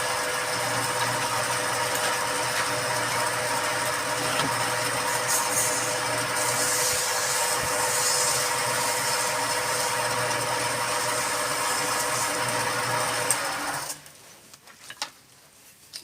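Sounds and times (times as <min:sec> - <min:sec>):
wood lathe running: 0:00.0 - 0:14.0.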